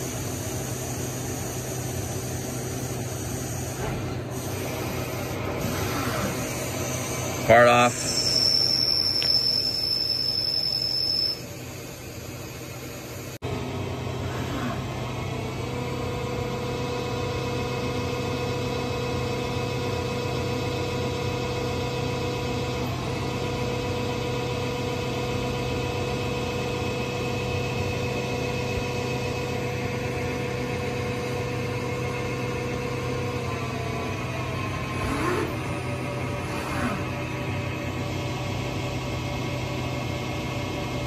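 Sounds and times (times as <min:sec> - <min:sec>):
lathe spindle whine and hum: 0:00.0 - 0:41.0.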